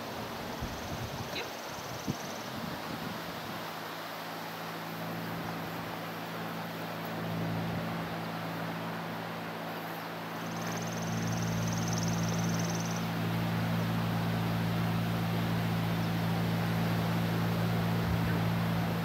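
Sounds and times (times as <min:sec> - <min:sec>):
machine low hum: 0:01.9 - 0:19.0.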